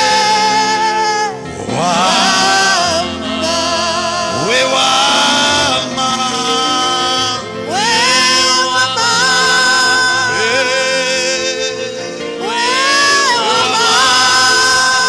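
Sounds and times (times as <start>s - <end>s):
person singing long notes: 0.0s - 15.0s
sustained instrumental backing: 0.0s - 15.0s.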